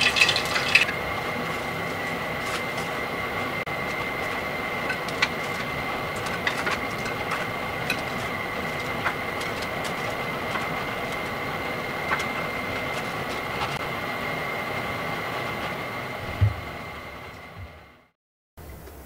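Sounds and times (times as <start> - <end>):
frying oil sizzling: 0.0 - 17.3.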